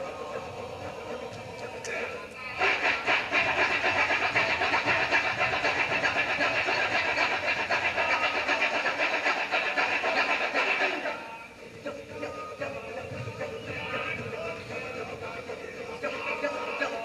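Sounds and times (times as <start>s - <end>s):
men chanting rhythmic syllables: 0.0s - 17.0s.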